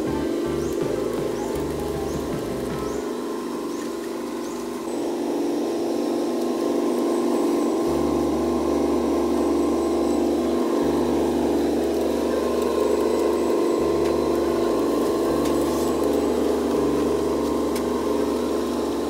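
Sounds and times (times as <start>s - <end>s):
toy truck mechanical hum: 0.0s - 19.0s.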